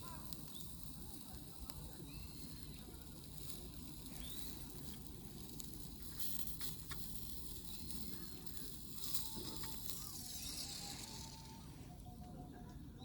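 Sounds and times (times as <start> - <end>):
fire popping: 0.0 - 12.0
wood fire burning: 0.0 - 12.0.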